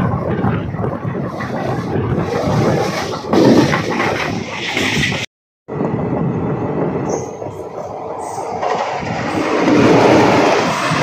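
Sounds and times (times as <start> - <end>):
passing train: 0.0 - 11.0
train wheel and rail noise: 0.0 - 11.0.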